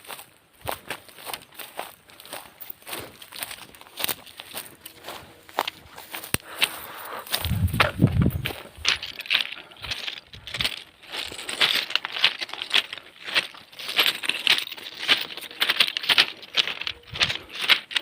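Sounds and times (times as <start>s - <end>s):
footsteps crunching on stones: 0.0s - 18.0s.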